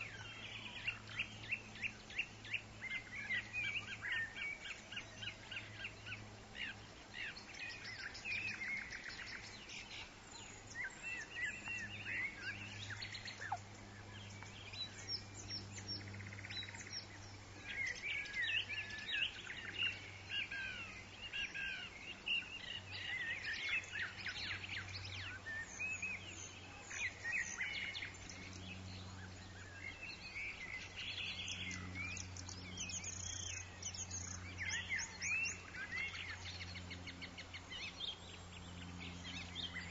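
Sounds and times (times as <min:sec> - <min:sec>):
birds chirping and calling: 0:00.0 - 0:39.9
steady low hum: 0:00.0 - 0:39.9.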